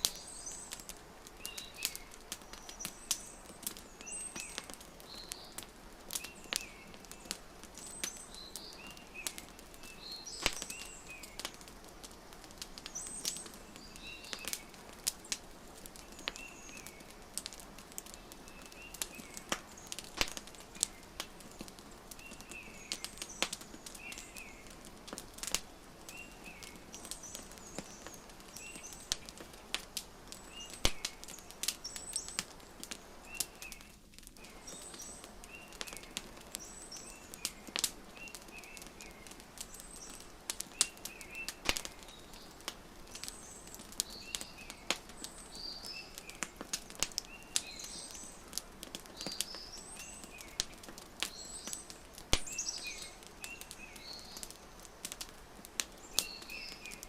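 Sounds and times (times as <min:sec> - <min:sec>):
small birds chirping: 0:00.0 - 0:57.0
wood fire crackling: 0:00.0 - 0:57.0.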